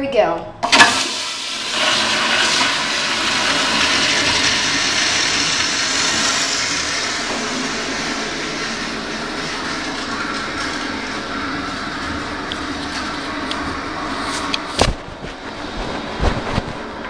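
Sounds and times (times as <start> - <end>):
toilet flushing: 0.6 - 15.7.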